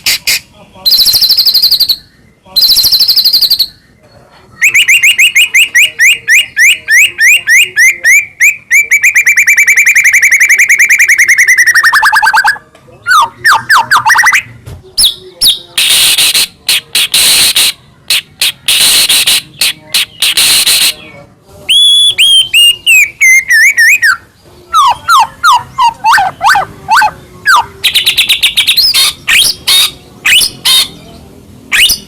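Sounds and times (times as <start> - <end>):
songbird singing varied song: 0.9 - 32.0.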